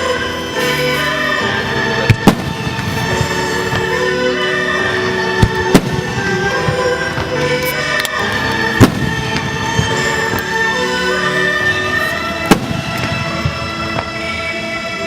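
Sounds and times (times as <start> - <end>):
steady music: 0.0 - 15.0
firework shells bursting: 2.0 - 14.2.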